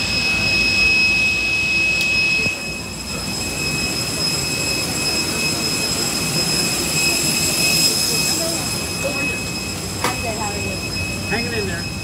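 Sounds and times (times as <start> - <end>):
high-pitched jet engine whine: 0.0 - 12.0.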